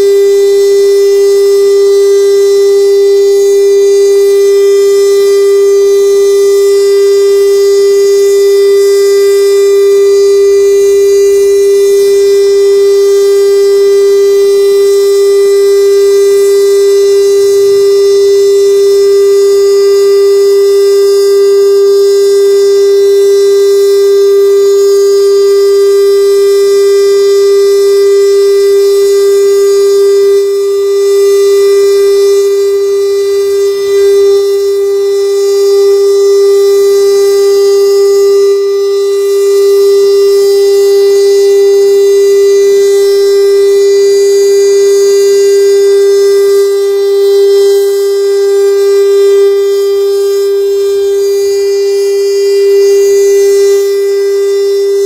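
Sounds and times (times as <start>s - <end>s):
warning siren steady tone: 0.0s - 55.0s.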